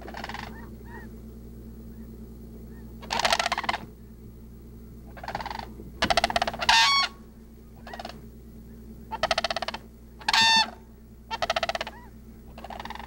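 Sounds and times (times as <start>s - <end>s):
cranes rattling calls: 0.0s - 1.2s, 1.9s - 4.1s, 5.0s - 13.0s
flock short calls: 0.0s - 1.2s, 1.8s - 4.3s, 5.0s - 13.0s.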